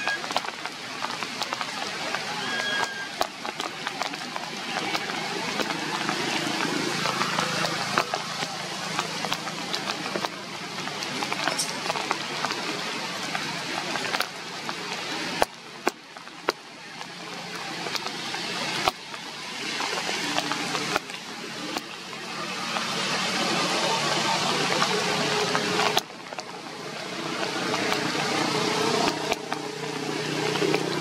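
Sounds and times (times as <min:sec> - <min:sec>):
rain falling on leaves: 0:00.0 - 0:31.0.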